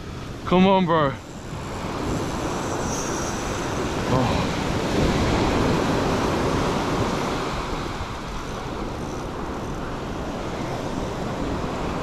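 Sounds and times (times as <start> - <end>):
surf waves washing up beach: 0.0 - 12.0
wind buffeting microphone: 0.0 - 12.0.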